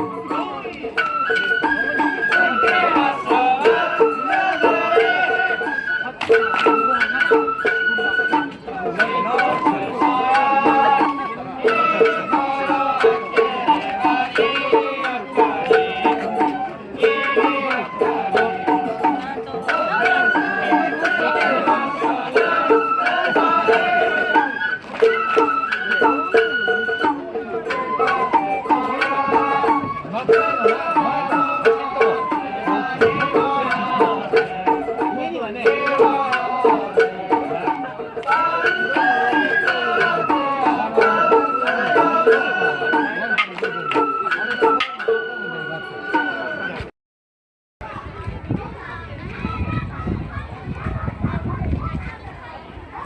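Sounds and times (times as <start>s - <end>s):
taiko drum beat: 0.0s - 45.3s
bamboo flute melody: 0.0s - 46.9s.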